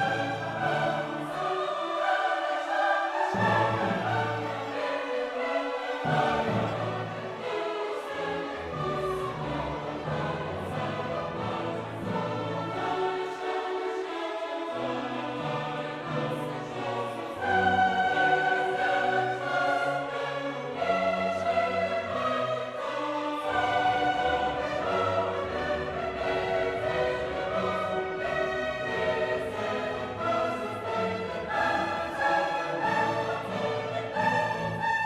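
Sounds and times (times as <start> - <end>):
choir singing held notes: 0.0 - 35.0.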